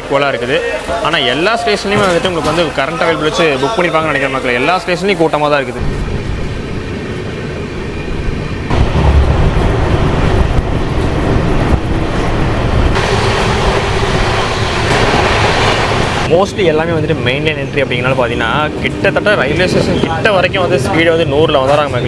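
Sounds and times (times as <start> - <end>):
train rolling along track: 0.0 - 22.0.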